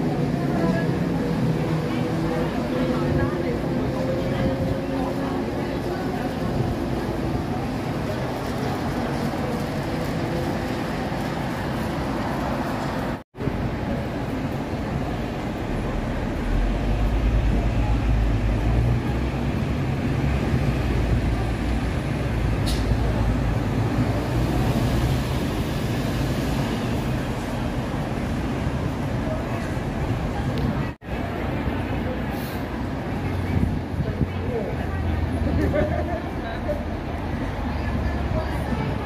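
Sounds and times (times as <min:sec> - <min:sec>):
city road traffic: 0:00.0 - 0:39.0.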